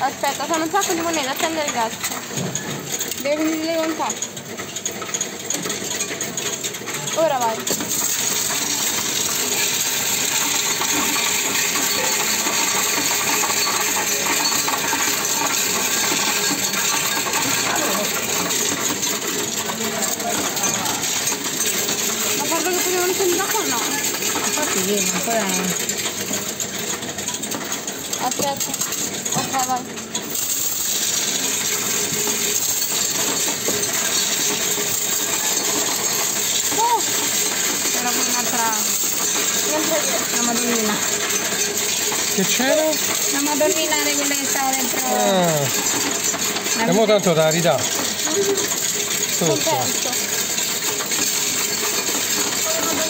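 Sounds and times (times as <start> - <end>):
coins clattering through counting machine: 0.0 - 53.0.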